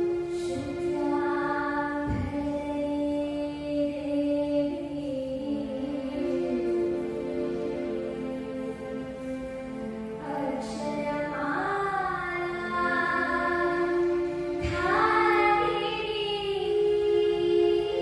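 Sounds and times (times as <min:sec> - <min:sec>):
woman singing devotional song: 0:00.2 - 0:08.7, 0:10.2 - 0:18.0.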